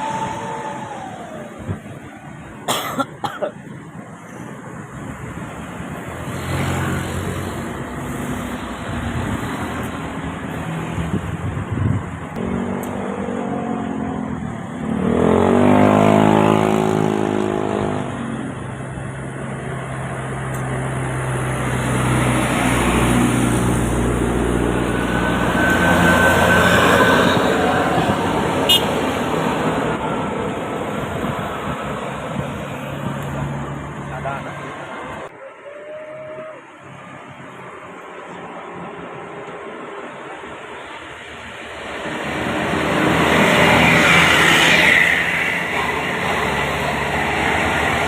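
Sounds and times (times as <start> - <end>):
bus engines running: 0.0 - 48.0
bus passing close: 0.0 - 48.0.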